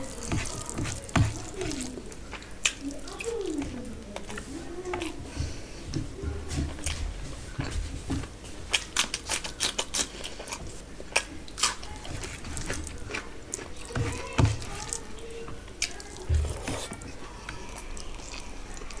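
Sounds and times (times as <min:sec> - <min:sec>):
cucumber crunching: 0:00.0 - 0:05.2, 0:08.6 - 0:19.0
wet rice mixing by hand: 0:00.0 - 0:19.0.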